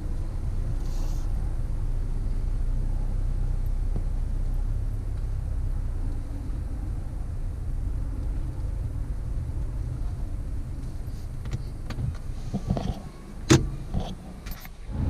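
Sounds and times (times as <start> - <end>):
road and tyre rumble in car: 0.0 - 15.0.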